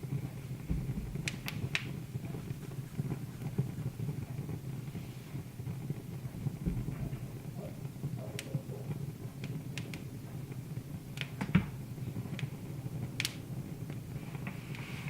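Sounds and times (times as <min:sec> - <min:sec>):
fire popping and snapping: 0:00.0 - 0:15.0
wood fire crackling: 0:00.0 - 0:15.0.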